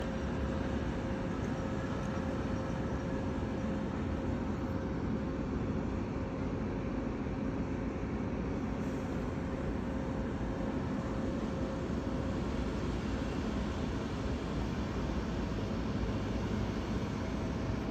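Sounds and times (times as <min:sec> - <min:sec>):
steady whine: 0:00.0 - 0:17.9.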